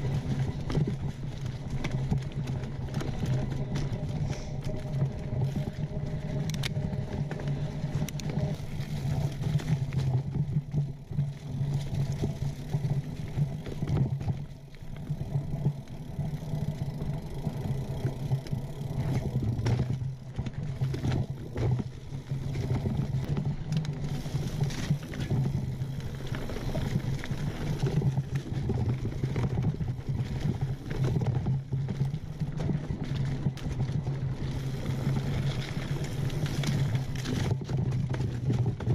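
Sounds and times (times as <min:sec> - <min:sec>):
bike rattling over bumps: 0:00.0 - 0:38.9
bike tyres on dirt trail: 0:00.0 - 0:38.9.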